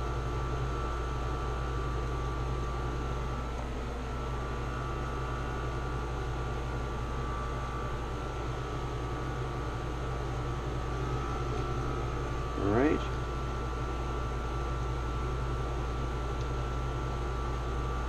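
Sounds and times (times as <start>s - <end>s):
air conditioner humming: 0.0s - 18.0s
faint high whine: 0.0s - 18.0s.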